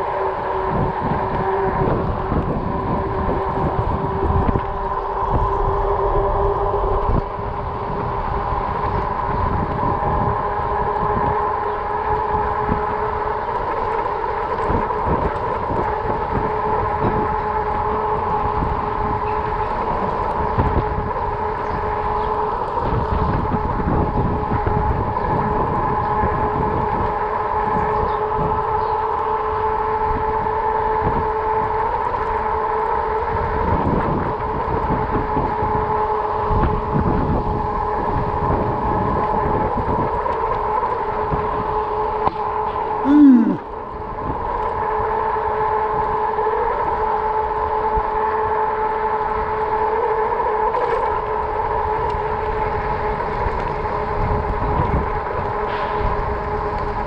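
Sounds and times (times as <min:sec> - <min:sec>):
electric bike whine: 0:00.0 - 0:57.0
wind rumbling on microphone: 0:00.0 - 0:57.0.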